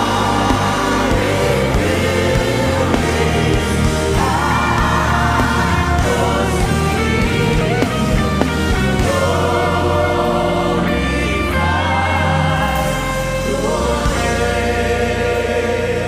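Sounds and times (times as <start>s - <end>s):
band with full bass: 0.0s - 16.0s
voices singing gospel: 0.0s - 16.0s.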